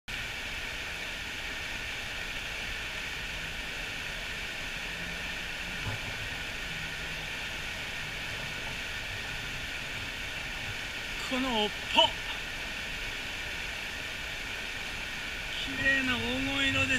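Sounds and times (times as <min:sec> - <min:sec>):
stream water rushing: 0:00.1 - 0:16.9.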